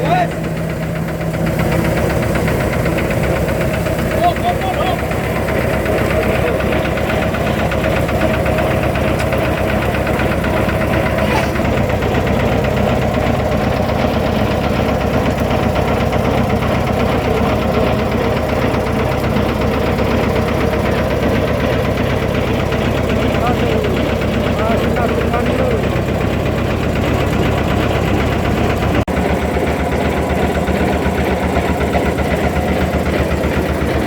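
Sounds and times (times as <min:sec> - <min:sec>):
boat engine chugging: 0:00.0 - 0:34.0.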